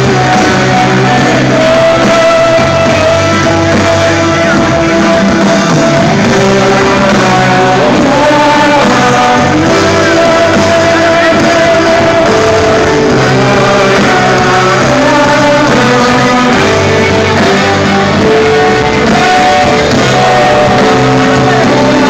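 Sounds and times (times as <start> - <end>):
guitar: 0.0 - 22.0
live rock band playing: 0.0 - 22.0.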